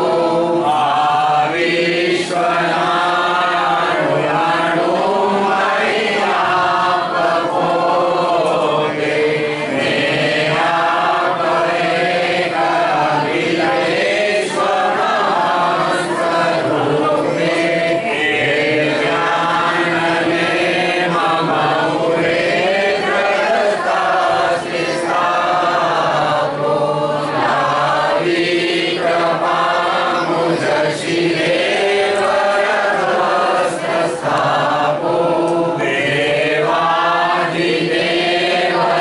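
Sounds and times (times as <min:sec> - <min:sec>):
congregation singing in unison: 0:00.0 - 0:39.0.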